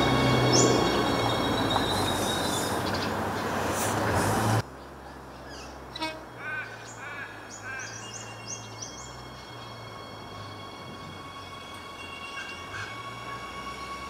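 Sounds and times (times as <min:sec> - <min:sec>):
birds chirping: 0:00.0 - 0:03.8, 0:04.7 - 0:14.0
electric train running on rails: 0:00.0 - 0:04.6, 0:05.8 - 0:14.0.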